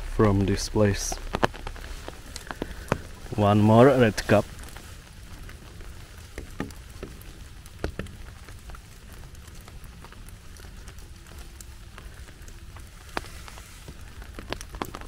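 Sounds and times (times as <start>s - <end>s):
light rain falling: 0.0s - 15.0s
raindrops ticking: 0.0s - 15.0s.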